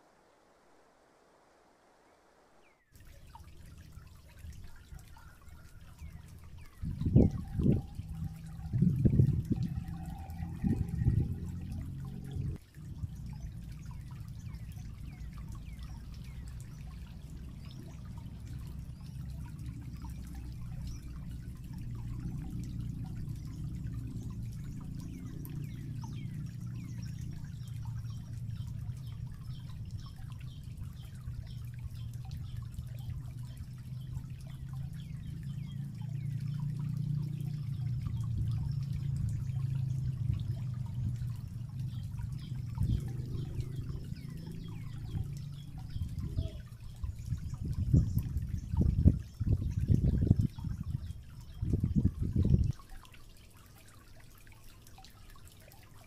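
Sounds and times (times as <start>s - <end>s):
water trickling: 2.6s - 56.0s.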